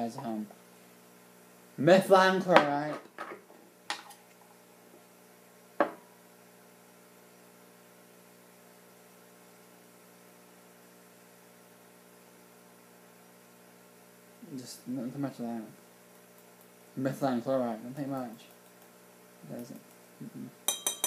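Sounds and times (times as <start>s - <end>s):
faint electrical mains hum: 0.0s - 21.0s.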